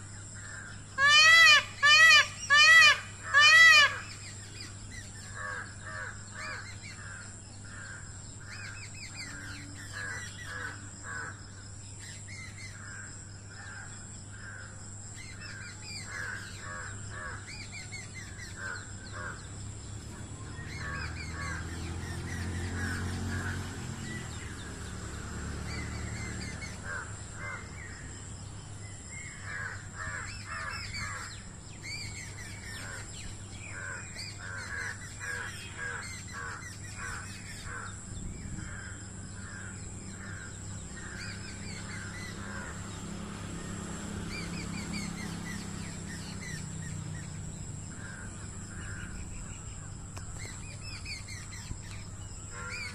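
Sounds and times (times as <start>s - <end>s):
birds calling: 0.0s - 52.9s.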